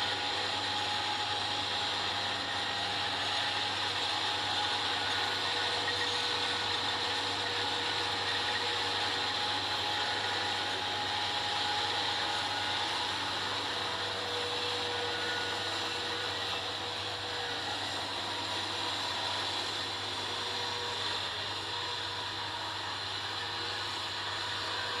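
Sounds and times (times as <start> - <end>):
harvesting machinery running: 0.0 - 25.0.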